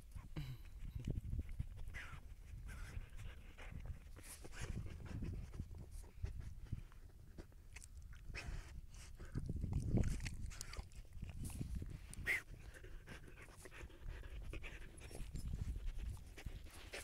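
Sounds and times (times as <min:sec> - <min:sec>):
dog sniffing and snuffling: 0:00.0 - 0:17.0.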